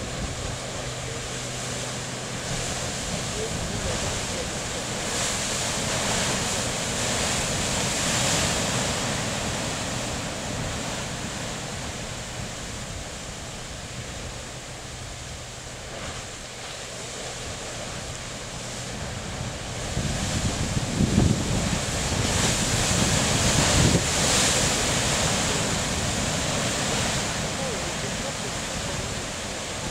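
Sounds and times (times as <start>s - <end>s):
sea surf crashing: 0.0s - 29.9s
wind buffeting microphone: 0.0s - 29.9s.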